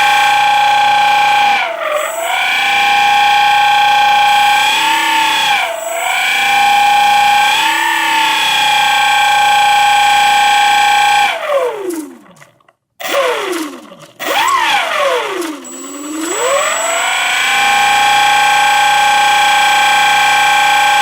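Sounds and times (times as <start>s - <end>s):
electric motor whining: 0.0s - 12.4s, 13.0s - 21.0s.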